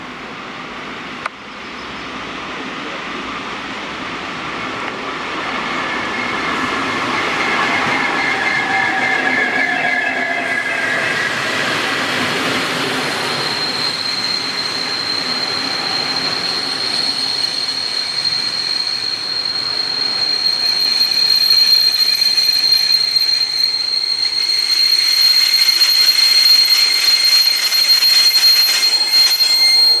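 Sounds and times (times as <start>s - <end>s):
train wheels rolling: 3.6s - 30.0s
train brakes squealing: 4.6s - 30.0s.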